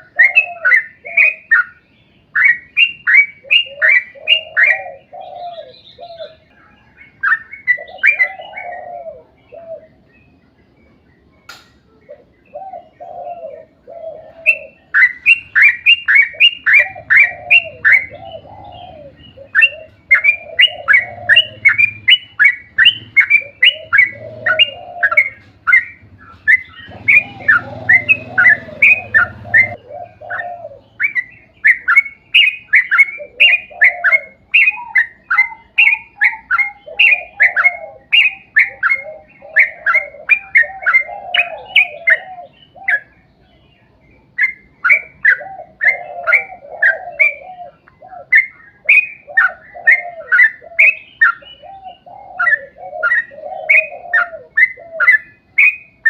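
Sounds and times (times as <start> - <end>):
bird song with bright falling notes: 0.0 - 56.0.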